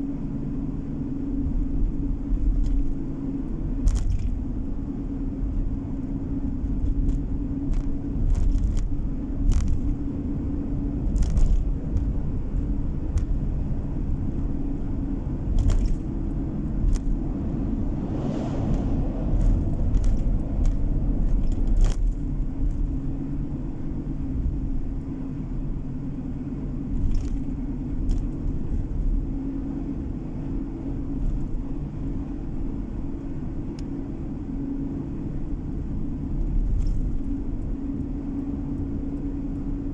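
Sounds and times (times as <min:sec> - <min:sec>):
car engine and tyre rumble: 0:00.0 - 0:39.9
constant hum: 0:00.0 - 0:39.9.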